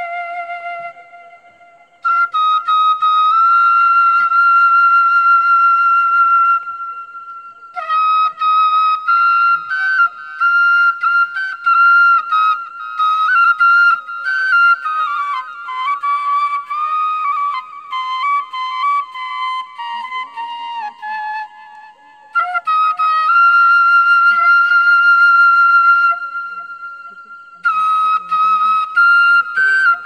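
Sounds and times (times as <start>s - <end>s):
solo flute melody: 0.0s - 30.0s.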